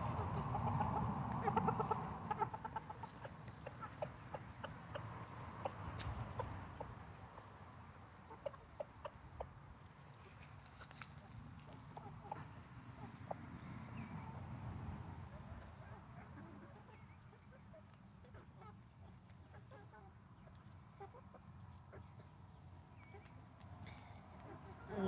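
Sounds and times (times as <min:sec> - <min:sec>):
chickens clucking softly: 0:00.0 - 0:25.0.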